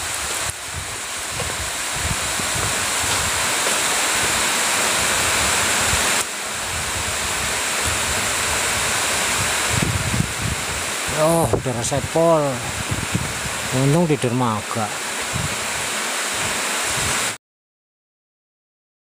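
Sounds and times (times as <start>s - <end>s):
heavy rain pouring: 0.0s - 17.4s.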